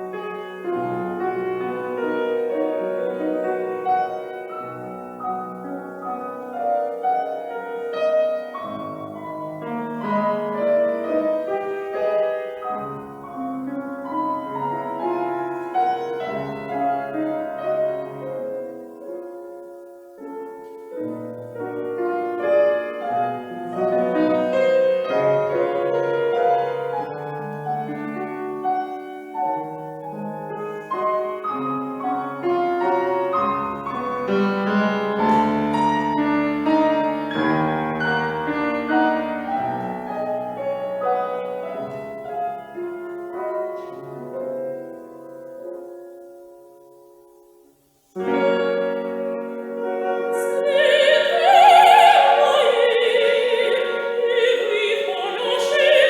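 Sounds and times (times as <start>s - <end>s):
solo piano: 0.0s - 56.0s.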